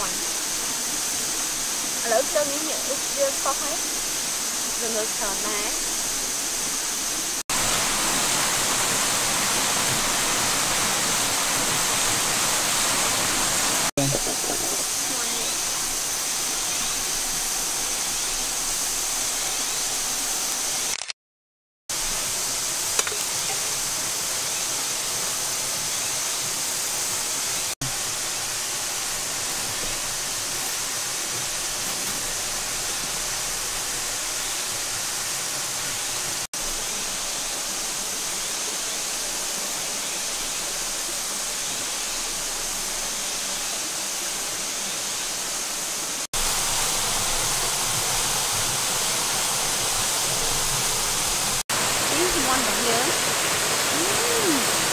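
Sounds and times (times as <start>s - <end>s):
water rushing: 0.0s - 21.0s, 21.9s - 54.9s.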